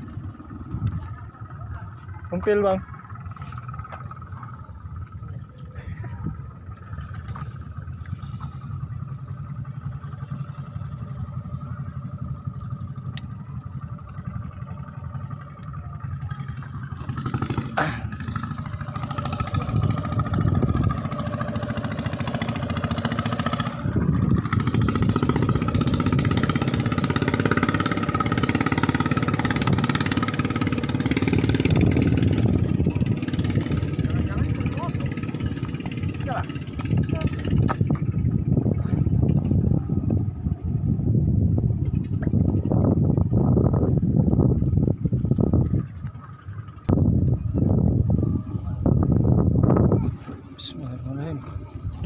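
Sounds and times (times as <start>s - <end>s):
motor engine running: 0.0s - 52.0s.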